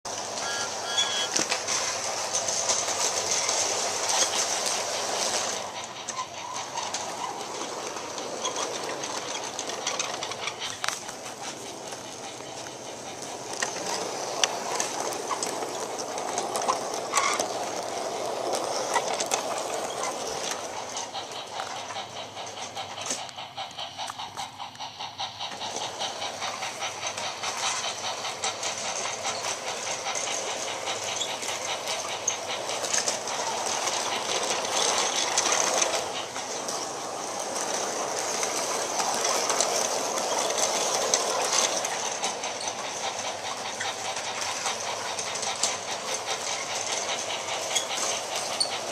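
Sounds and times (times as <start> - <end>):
model train rattling on track: 0.0 - 48.9.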